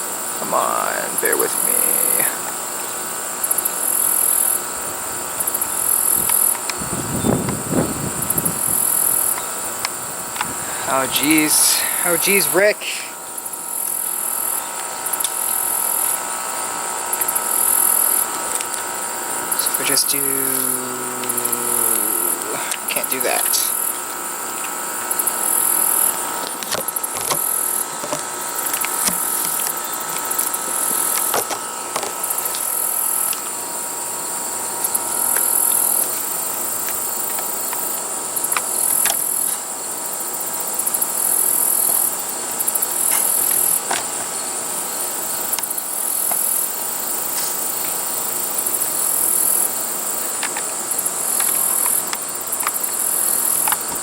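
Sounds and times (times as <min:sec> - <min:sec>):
insects buzzing: 0:00.0 - 0:54.0.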